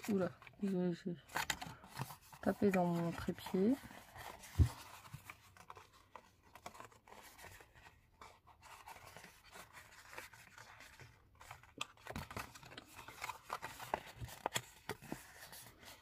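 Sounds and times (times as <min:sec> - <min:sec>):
paper rustling as folded: 0:00.0 - 0:16.0.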